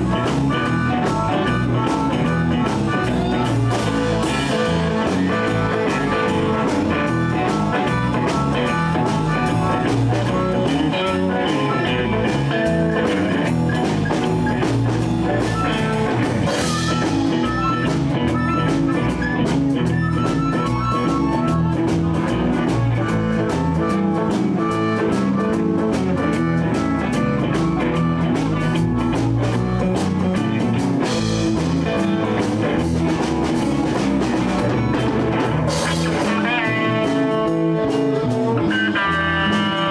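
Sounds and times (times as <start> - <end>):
drum beat: 0.0 - 38.5
blues band playing: 0.0 - 39.9.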